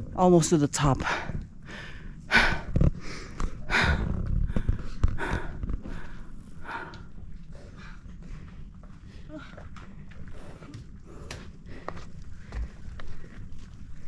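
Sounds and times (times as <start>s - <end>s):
person breathing hard: 1.0s - 13.5s.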